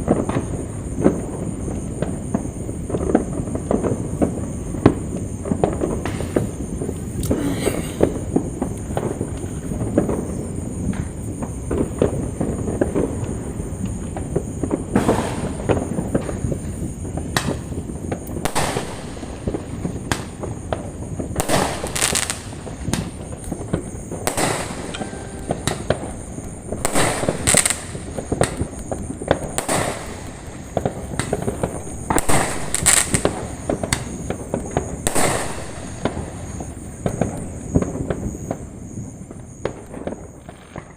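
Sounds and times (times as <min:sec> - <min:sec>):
fireworks bangs: 0:00.0 - 0:40.9
fireworks crackling: 0:00.0 - 0:40.9.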